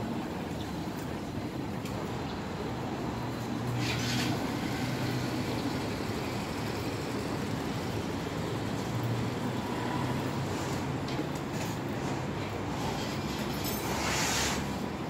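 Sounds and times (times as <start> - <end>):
low rumble of city traffic: 0.0 - 15.0.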